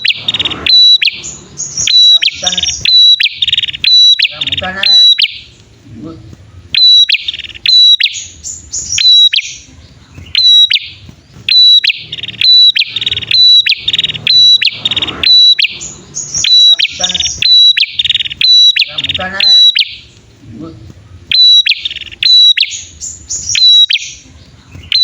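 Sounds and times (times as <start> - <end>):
bird buzzy rattling trills: 0.0 - 25.0.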